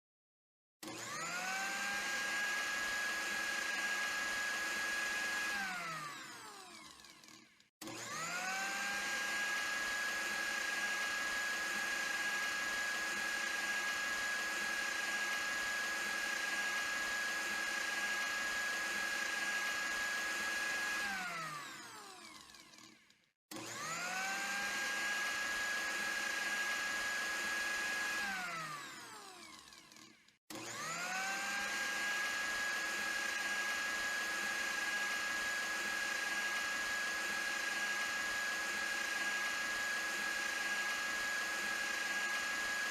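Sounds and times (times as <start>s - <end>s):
electric blender motor whine: 0.8s - 42.9s.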